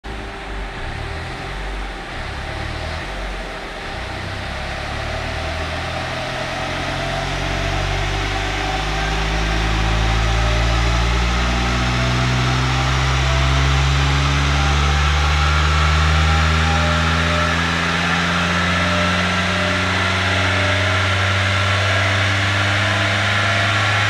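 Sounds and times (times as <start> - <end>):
diesel engine revving under load: 0.0 - 24.0
rush of rollers and turbo: 0.1 - 24.0.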